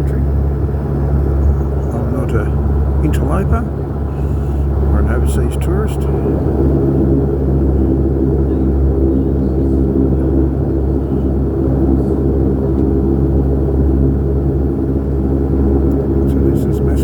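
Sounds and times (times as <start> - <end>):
turboprop cabin drone: 0.0 - 17.0.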